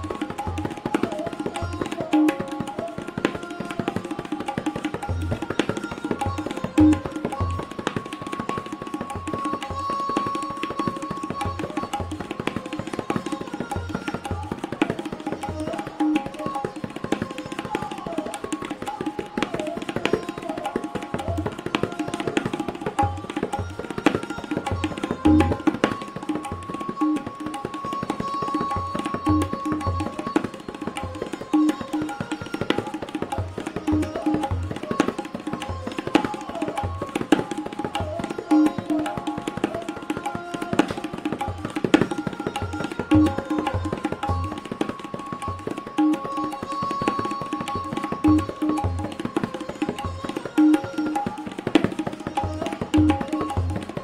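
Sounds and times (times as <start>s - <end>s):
tabla strokes: 0.0s - 54.0s.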